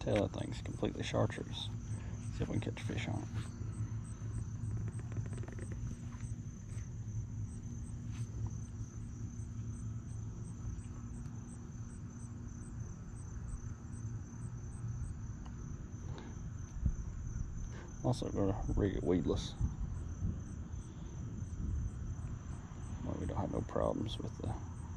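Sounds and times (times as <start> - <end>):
insects buzzing and chirping: 0.0 - 24.9
steady low rumble: 0.0 - 24.9.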